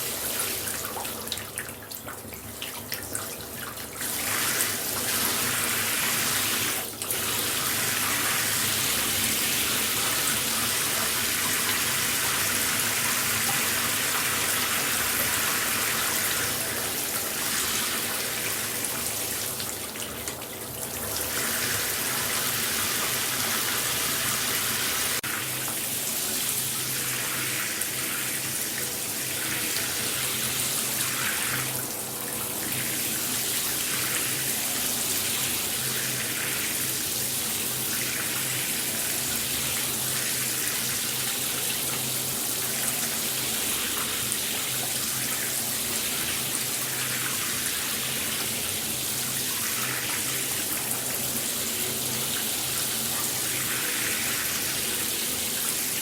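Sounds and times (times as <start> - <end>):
shower running: 0.0 - 56.0.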